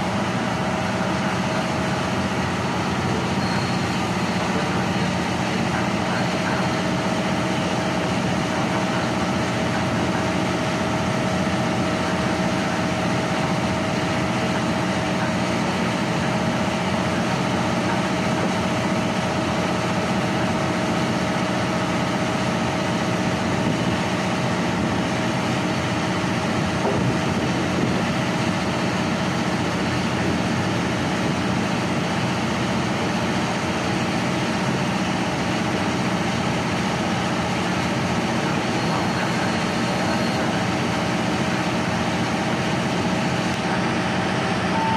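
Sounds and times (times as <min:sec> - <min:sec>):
constant whine: 0:00.0 - 0:44.9
diesel engine idling hum: 0:00.0 - 0:44.9.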